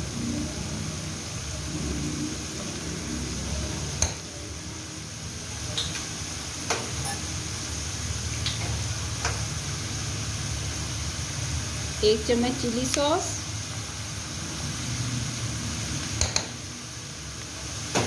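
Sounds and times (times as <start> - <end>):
vegetables sizzling in a wok: 0.0 - 18.0.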